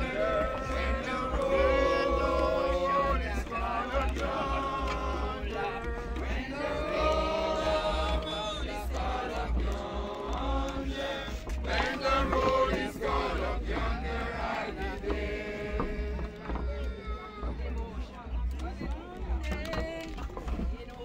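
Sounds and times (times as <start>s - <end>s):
group singing a hymn: 0.0s - 16.9s.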